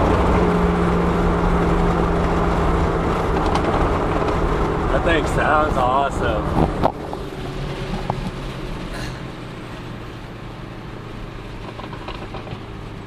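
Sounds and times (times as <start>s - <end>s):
car engine drone and road noise: 0.0s - 13.0s.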